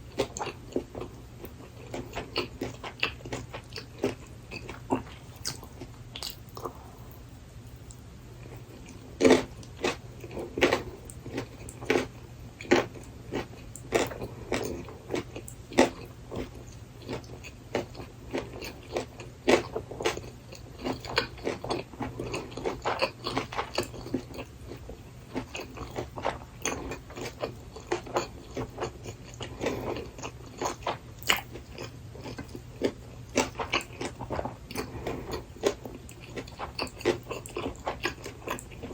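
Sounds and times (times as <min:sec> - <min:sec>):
steady low hum: 0:00.0 - 0:38.9
crisp chewing crunches: 0:00.1 - 0:07.2, 0:07.9 - 0:38.9.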